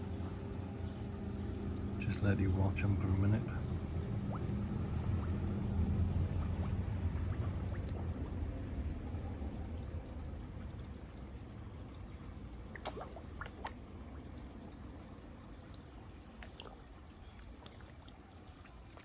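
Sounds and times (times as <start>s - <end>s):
water pouring into pond: 0.0s - 19.0s.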